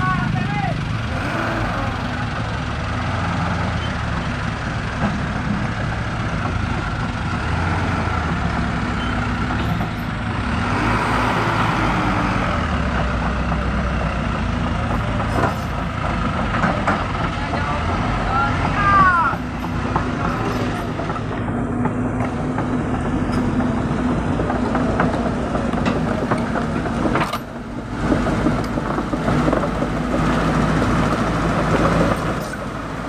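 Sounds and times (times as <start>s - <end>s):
diesel engines running under load: 0.0s - 33.0s.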